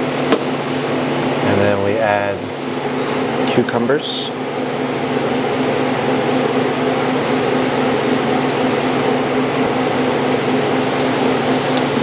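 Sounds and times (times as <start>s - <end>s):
fan humming with hiss: 0.0s - 12.0s.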